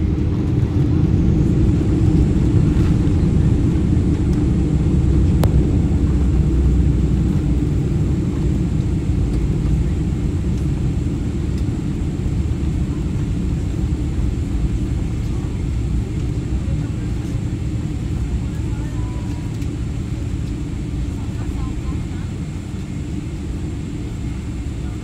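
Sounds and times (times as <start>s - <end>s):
jet engine and wheels rumbling: 0.0s - 25.0s.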